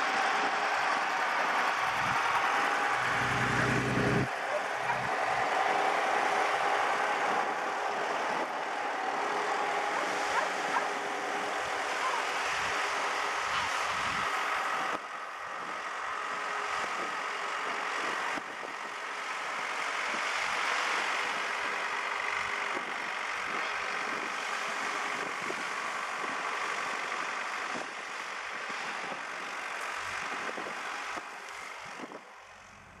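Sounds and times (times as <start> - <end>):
distant tractor engine: 0.0 - 33.0
faint steady whine: 0.0 - 33.0.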